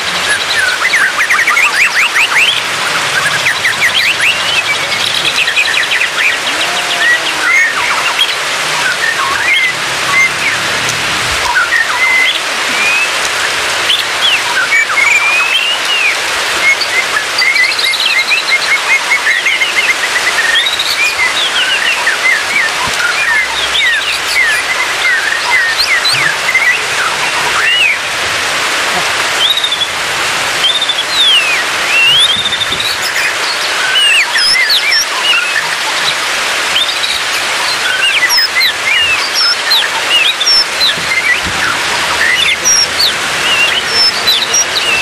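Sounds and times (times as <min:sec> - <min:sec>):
bird singing whistled phrases: 0:00.1 - 0:10.7, 0:11.4 - 0:28.1, 0:29.4 - 0:29.9, 0:30.6 - 0:45.0.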